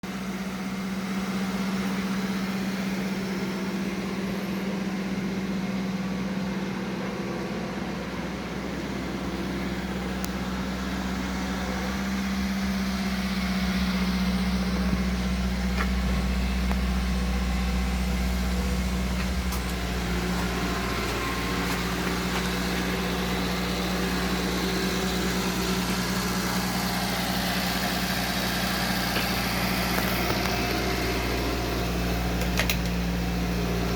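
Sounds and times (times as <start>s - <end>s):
small truck engine running: 0.0s - 33.9s.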